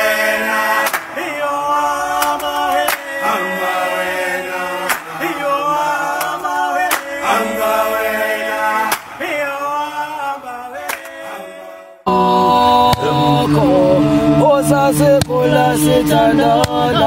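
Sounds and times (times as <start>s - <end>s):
male voices singing choral chant: 0.0s - 17.0s.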